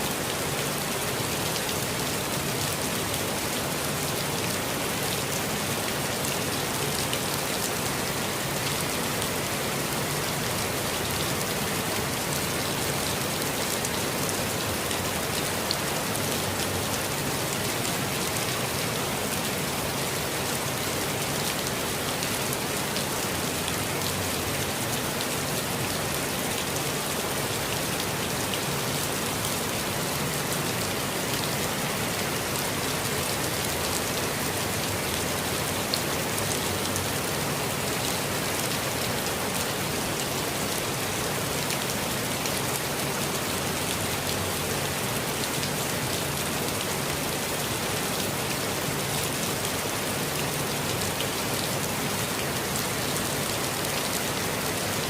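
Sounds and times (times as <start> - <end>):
rain pattering on leaves: 0.1 - 55.0.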